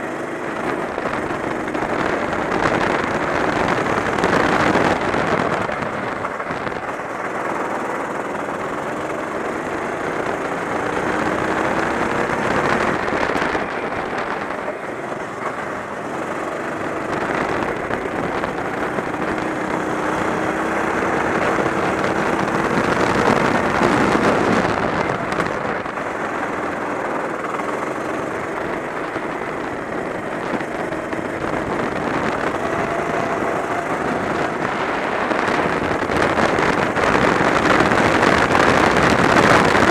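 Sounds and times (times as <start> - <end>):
go-kart engine revving: 0.0 - 39.9
steady rushing noise: 0.0 - 39.9.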